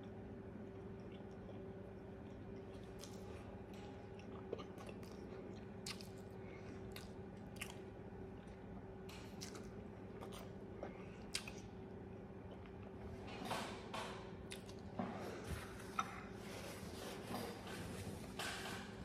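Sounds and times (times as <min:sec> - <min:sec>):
person chewing food: 0:00.0 - 0:13.0, 0:14.4 - 0:17.4.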